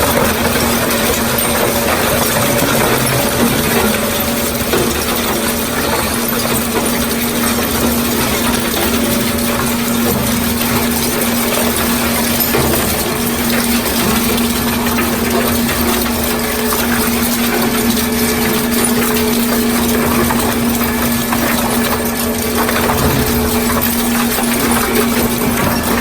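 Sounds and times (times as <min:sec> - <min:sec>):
continuous grinding: 0:00.0 - 0:26.0
cracks and knocks of tearing metal: 0:00.0 - 0:26.0.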